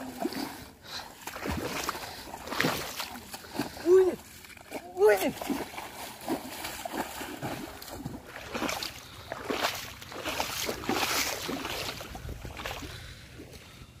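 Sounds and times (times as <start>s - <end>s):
splashing through shallow water: 0.0s - 13.8s.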